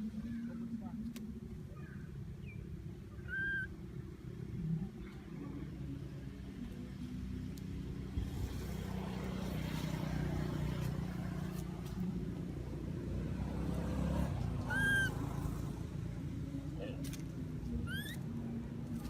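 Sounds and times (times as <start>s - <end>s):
motor vehicle rumbling: 0.0s - 19.0s.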